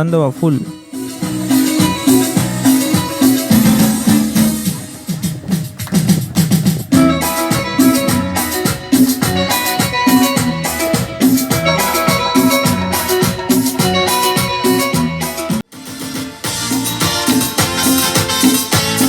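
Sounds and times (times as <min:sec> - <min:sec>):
dance music over loudspeakers: 0:00.0 - 0:15.6, 0:16.5 - 0:19.0.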